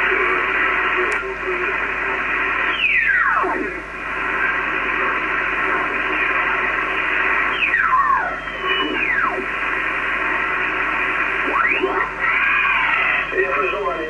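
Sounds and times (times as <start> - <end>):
radio band hiss: 0.0 - 14.0.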